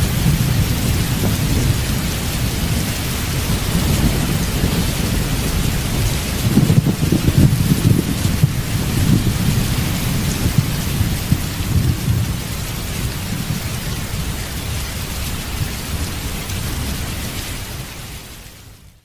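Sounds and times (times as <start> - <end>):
low rumble of thunder: 0.0 - 18.1
steady rain: 0.0 - 19.0.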